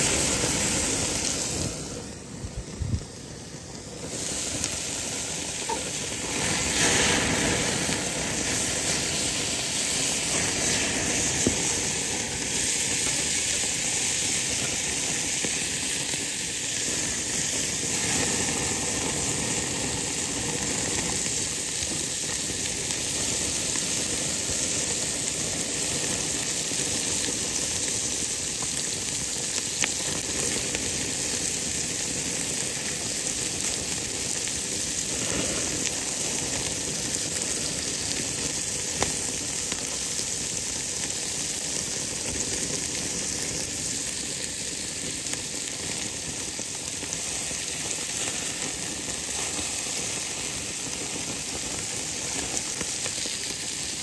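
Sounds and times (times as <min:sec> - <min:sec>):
meat sizzling on a grill: 0:00.0 - 0:54.0.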